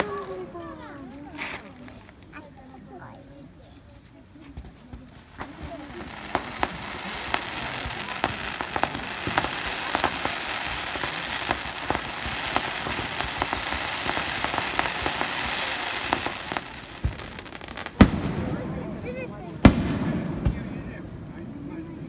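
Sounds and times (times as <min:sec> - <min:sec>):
fireworks hiss and pops: 0:04.0 - 0:22.0.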